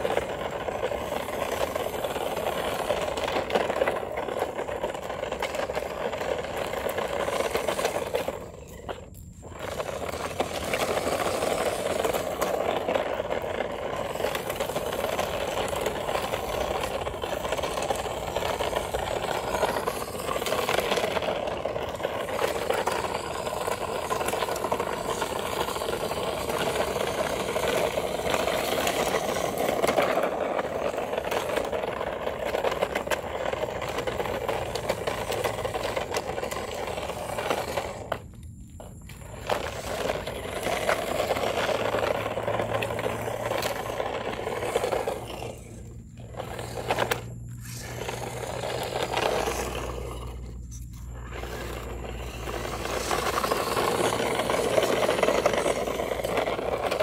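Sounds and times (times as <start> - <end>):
plastic wheels rattling on concrete: 0.0 - 57.0
toy car motor whirring: 0.0 - 57.0.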